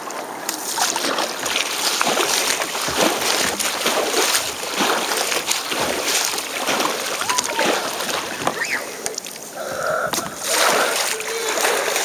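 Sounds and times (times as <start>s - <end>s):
water splashing against kayak: 0.0s - 12.0s.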